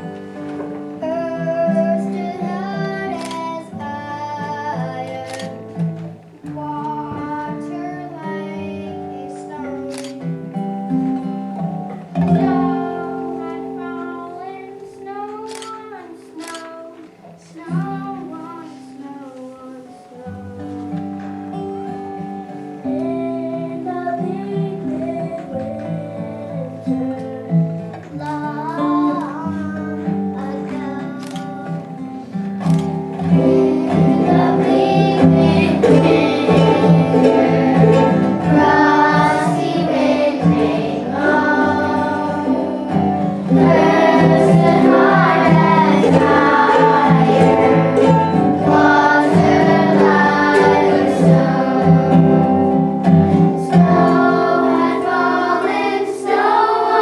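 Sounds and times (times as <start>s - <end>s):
children singing: 0.0s - 10.3s, 11.6s - 20.8s, 22.8s - 57.0s
plucked guitar: 0.0s - 57.0s.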